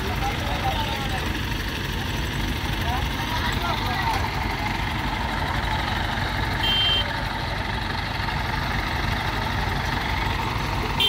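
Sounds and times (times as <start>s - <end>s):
crane engine running: 0.0s - 11.0s.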